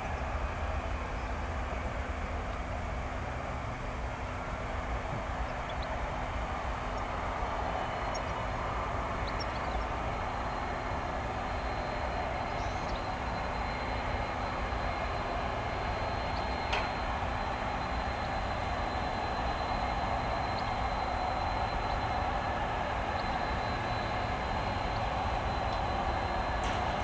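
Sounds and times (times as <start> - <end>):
distant jet engines taxiing: 0.0 - 27.0.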